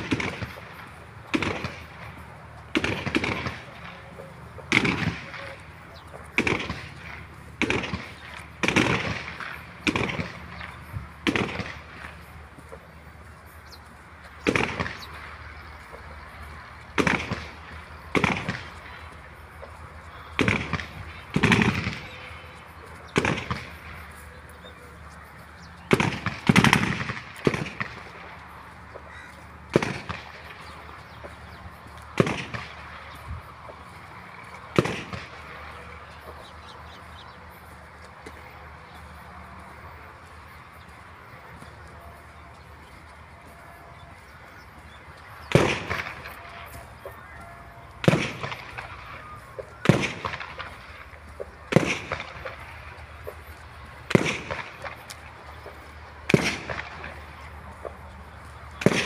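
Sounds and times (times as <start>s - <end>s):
background rush of noise: 0.0s - 59.0s.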